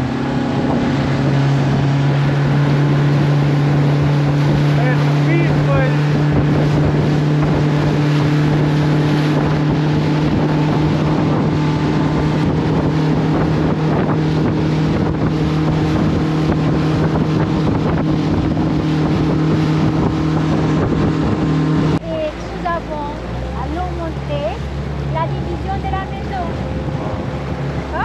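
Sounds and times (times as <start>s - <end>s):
boat motor droning: 0.0s - 28.0s.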